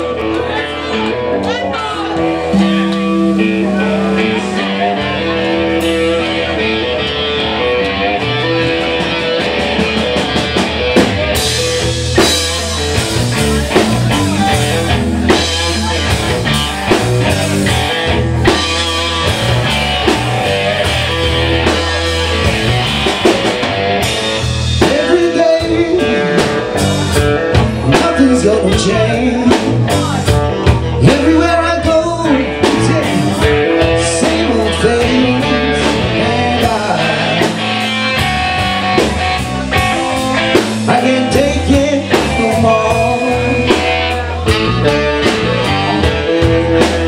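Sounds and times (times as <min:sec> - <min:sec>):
person singing: 0:00.0 - 0:09.2, 0:11.0 - 0:47.0
blues-rock band playing: 0:00.0 - 0:47.0.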